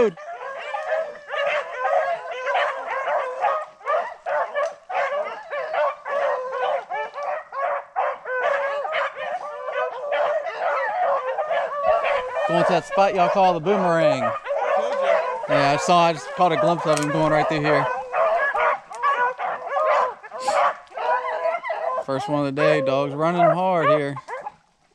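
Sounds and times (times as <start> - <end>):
dogs barking and bawling: 0.0 - 24.7.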